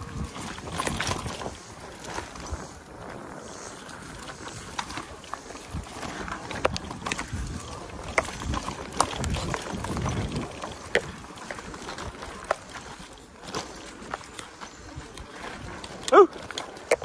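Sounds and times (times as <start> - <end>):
bike rattling and knocking: 0.0 - 17.0
tyres rolling over dirt: 0.0 - 17.0.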